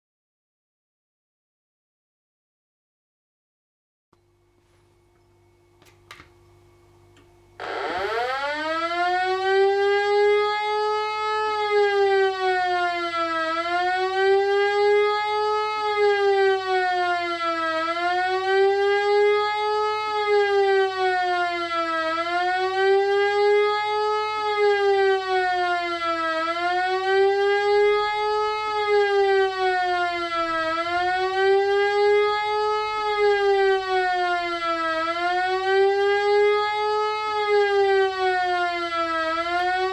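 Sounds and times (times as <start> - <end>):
wailing siren: 7.6 - 39.9.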